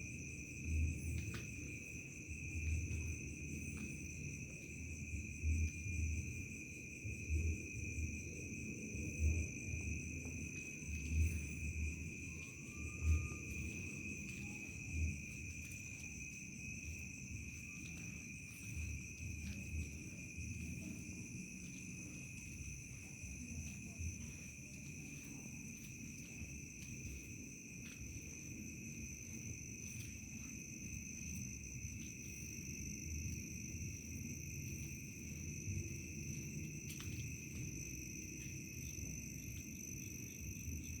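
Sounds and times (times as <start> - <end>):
crickets trilling: 0.0 - 41.0.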